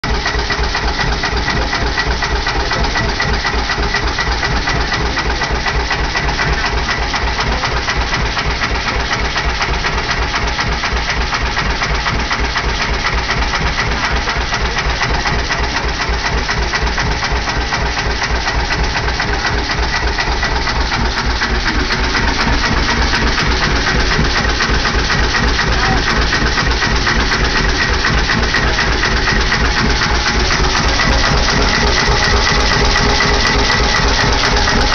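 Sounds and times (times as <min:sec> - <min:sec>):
engine rhythmic clatter: 0:00.0 - 0:34.9.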